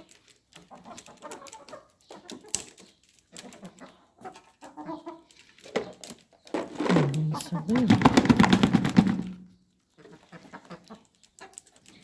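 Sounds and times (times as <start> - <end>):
hens clucking: 0.5 - 11.8.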